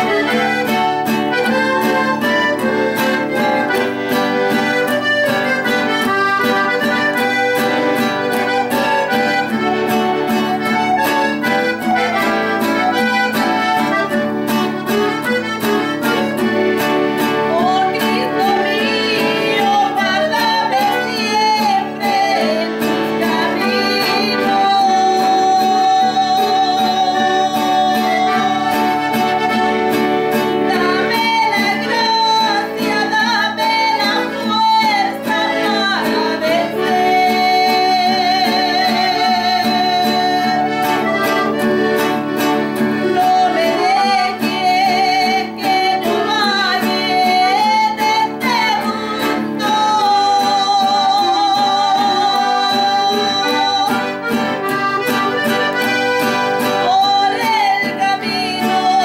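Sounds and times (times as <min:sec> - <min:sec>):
accordion melody: 0:00.0 - 0:59.0
strummed classical guitar: 0:00.0 - 0:59.0.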